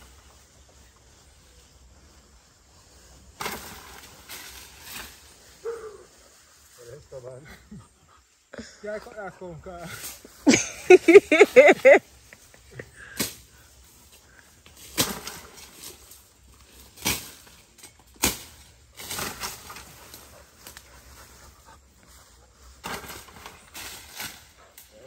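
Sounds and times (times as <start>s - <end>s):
leaves and branches rustling: 0.0s - 25.0s.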